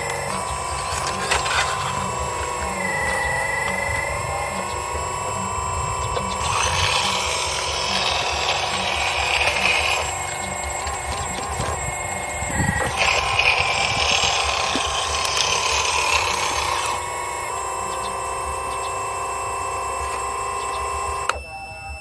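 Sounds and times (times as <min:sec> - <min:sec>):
hydraulic pump whine: 0:00.0 - 0:22.0.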